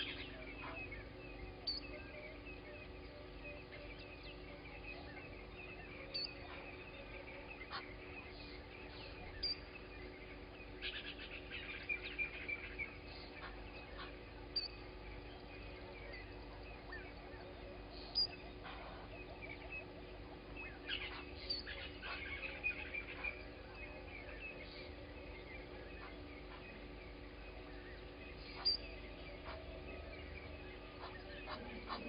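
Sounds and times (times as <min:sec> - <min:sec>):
birds chirping: 0:00.0 - 0:32.0
steady low hum: 0:00.0 - 0:32.0.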